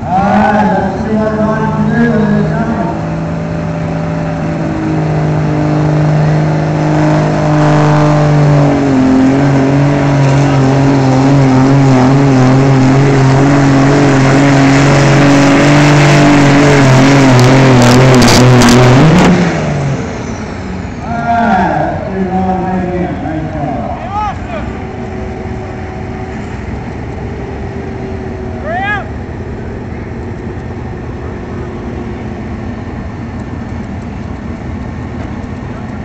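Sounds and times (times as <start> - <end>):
truck engine under heavy load: 0.0 - 36.0.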